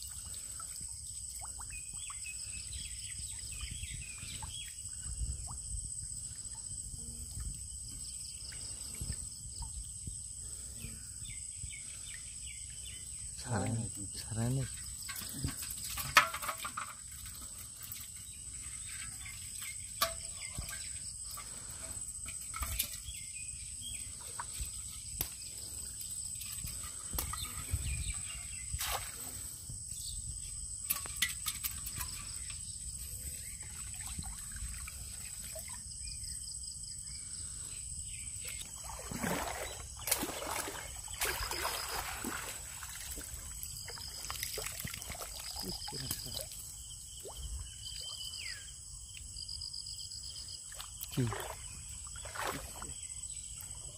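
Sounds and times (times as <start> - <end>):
water trickling and sloshing: 0.0 - 53.9.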